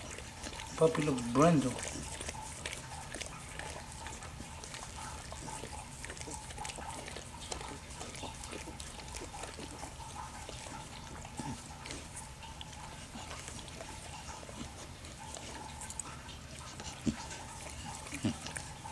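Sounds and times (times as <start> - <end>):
dog licking wet smacking: 0.0 - 18.9
dog snuffling: 0.0 - 18.9.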